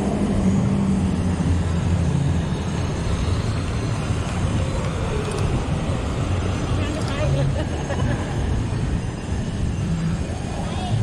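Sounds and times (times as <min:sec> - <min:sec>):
motor scooters humming: 0:00.0 - 0:11.0
wind and riding noise: 0:00.0 - 0:11.0.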